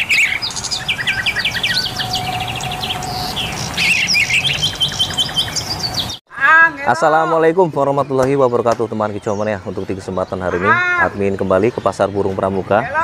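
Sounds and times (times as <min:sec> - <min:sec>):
canaries singing: 0:00.0 - 0:06.2, 0:06.8 - 0:13.0.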